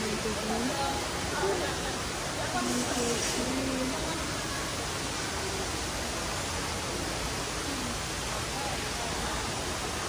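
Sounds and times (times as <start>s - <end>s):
faint voices: 0.0s - 10.0s
water rushing: 0.0s - 10.0s.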